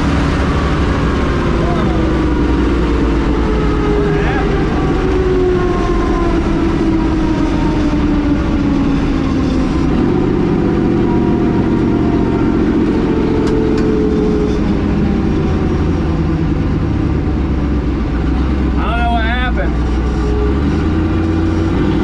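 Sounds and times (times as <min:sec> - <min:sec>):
loud race truck engines: 0:00.0 - 0:22.0.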